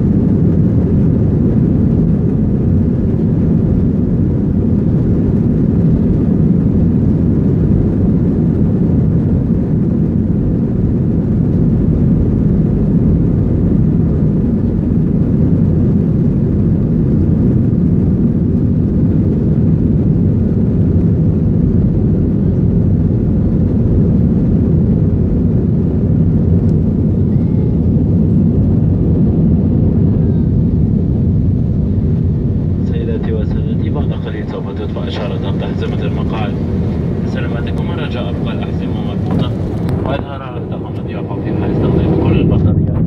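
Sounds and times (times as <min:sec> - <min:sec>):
jet engines rumbling in cabin: 0:00.0 - 0:43.0.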